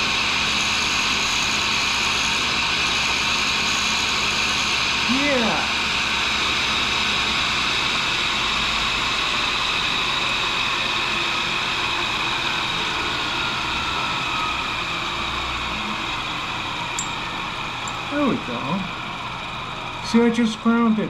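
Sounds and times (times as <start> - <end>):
grinder whirring: 0.0 - 21.0.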